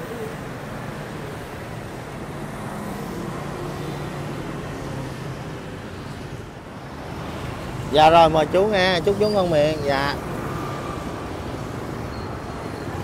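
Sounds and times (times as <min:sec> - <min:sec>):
passing vehicles: 0:00.0 - 0:13.0.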